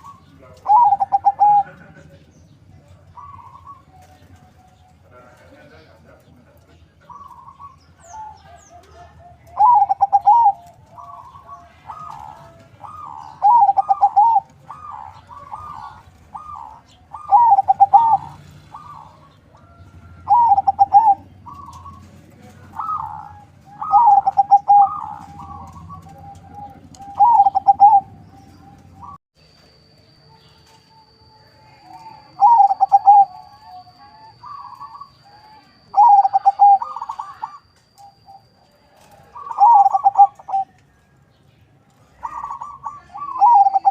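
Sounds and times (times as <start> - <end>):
dove cooing: 0.0 - 6.4, 7.0 - 29.2, 31.7 - 40.9, 42.0 - 43.9.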